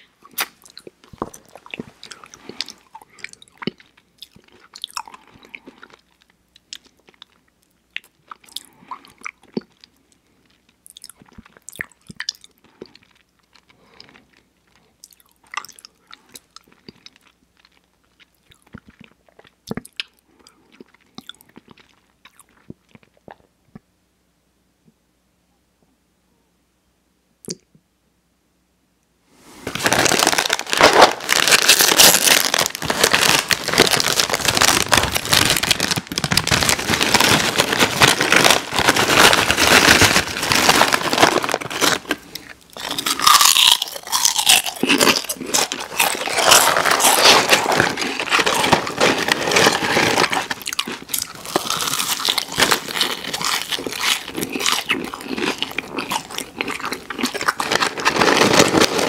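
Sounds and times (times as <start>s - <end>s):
crunching and chewing chips: 0.0s - 23.5s, 29.7s - 59.0s.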